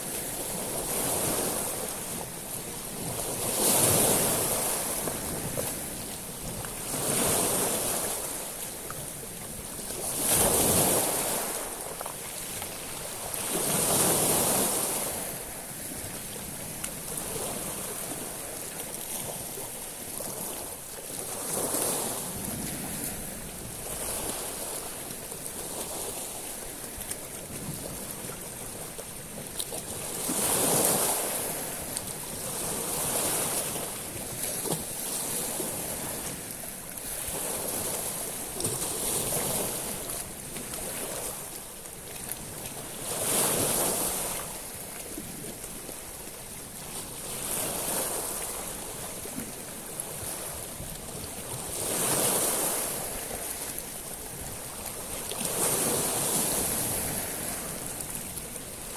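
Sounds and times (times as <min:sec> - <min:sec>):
waves breaking on pebble beach: 0:00.0 - 0:28.8, 0:29.8 - 0:41.6, 0:42.3 - 0:58.9.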